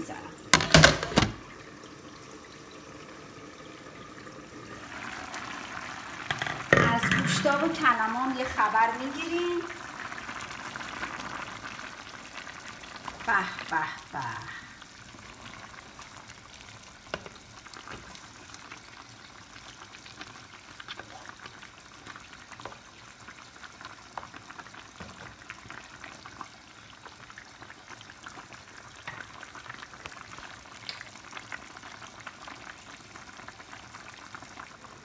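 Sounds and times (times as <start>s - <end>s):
stew simmering and sizzling: 0.0s - 35.0s.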